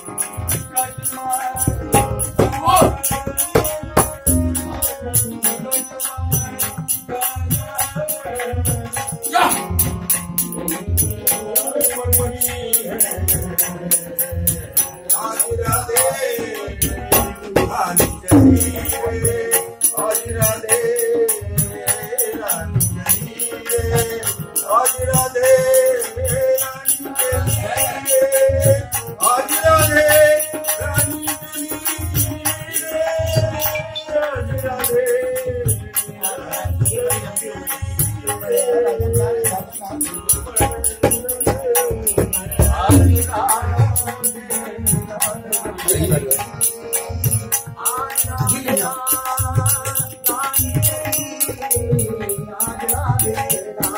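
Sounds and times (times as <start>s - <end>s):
drum beats: 0.0s - 53.9s
jingling percussion: 0.0s - 53.9s
man singing: 0.0s - 53.9s.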